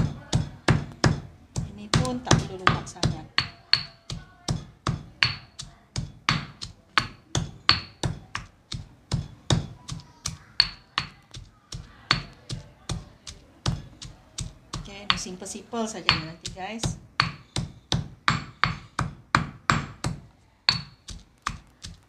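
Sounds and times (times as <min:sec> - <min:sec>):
stone pestle pounding in mortar: 0:00.0 - 0:22.0.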